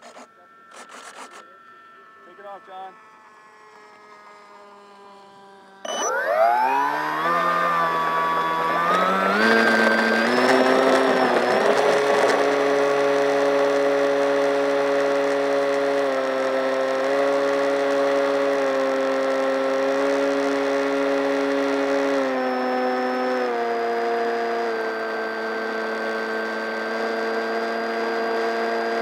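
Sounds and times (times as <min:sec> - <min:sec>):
electric motor and propeller whine: 0:00.0 - 0:29.0.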